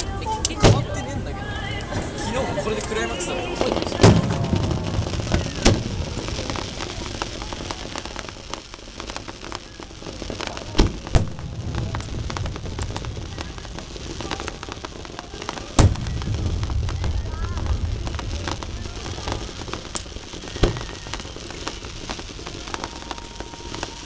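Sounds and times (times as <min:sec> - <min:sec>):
fireworks crackling: 0:00.0 - 0:24.0
firework shells booming: 0:00.4 - 0:01.0, 0:02.8 - 0:24.0.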